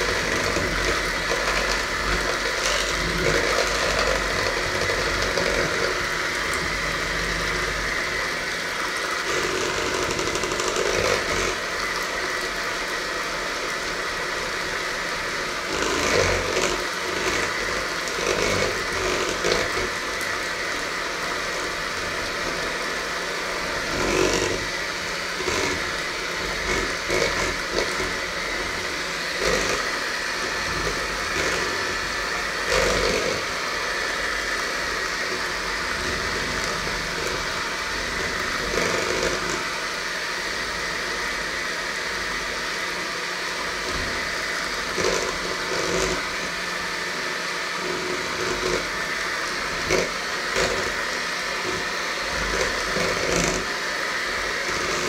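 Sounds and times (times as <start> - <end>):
electric hand mixer whisking batter: 0.0 - 55.0.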